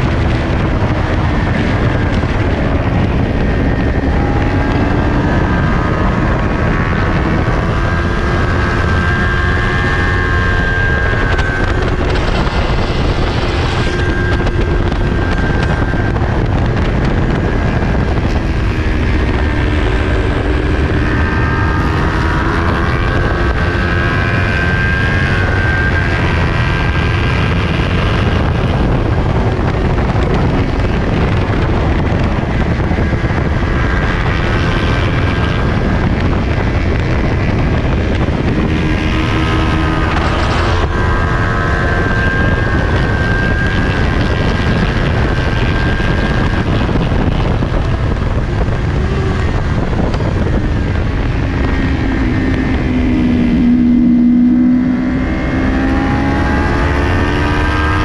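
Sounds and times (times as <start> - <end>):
motorcycle engine running hard: 0.0 - 58.0
wind rush: 0.0 - 58.0.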